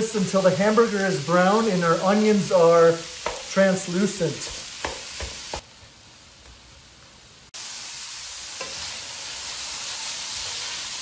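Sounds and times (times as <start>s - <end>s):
meat and onions sizzling: 0.0s - 11.0s.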